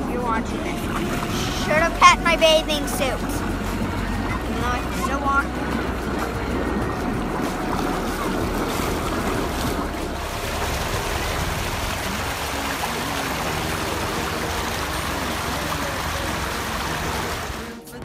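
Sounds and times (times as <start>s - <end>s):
water rushing down stone channel: 0.0s - 18.0s.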